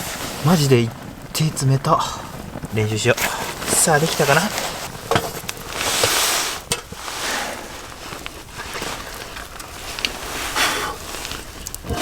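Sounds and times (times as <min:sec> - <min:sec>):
rustling hiss: 0:00.0 - 0:12.0.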